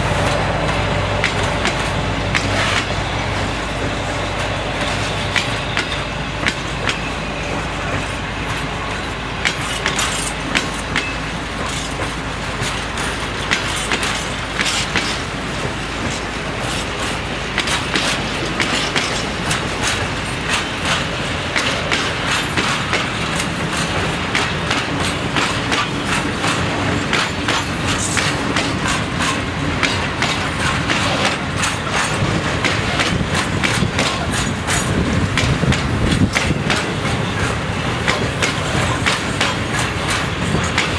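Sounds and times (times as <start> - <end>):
freight train rumble: 0.0 - 40.9
train wheels clicking over rail joints: 0.0 - 40.9.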